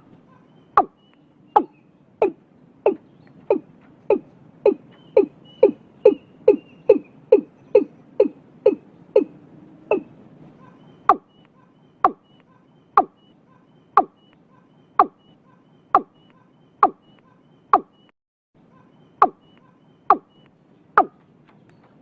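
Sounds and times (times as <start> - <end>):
bird calling deep notes: 0.0 - 18.1, 18.7 - 21.9.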